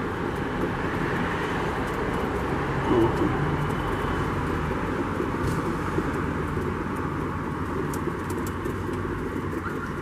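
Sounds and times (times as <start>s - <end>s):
steady rumbling noise: 0.0s - 10.0s.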